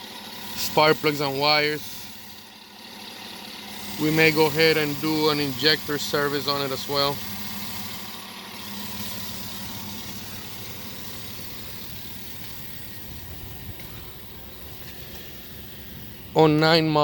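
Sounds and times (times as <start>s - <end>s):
rough car engine idling: 0.0s - 17.0s.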